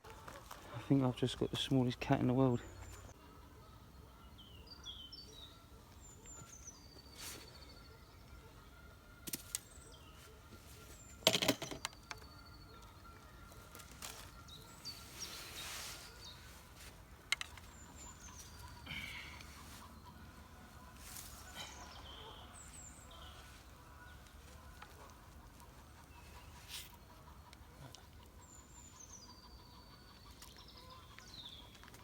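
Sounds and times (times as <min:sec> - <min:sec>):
small birds chirping: 0:00.7 - 0:32.0.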